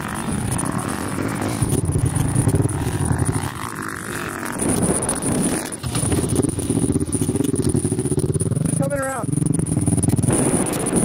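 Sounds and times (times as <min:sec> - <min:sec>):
steady high-pitched whine: 0:00.0 - 0:11.0
vehicle engine revving: 0:00.0 - 0:11.0.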